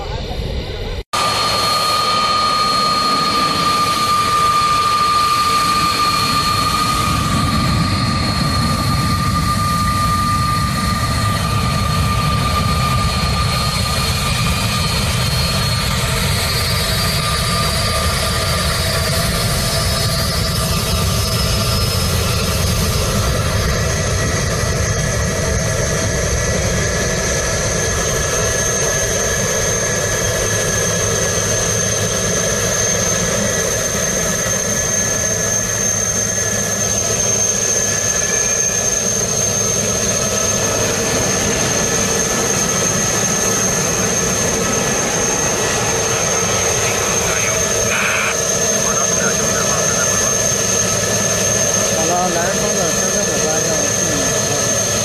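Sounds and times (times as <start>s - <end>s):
high whine: 0.0s - 55.0s
jet engines running: 0.0s - 55.0s.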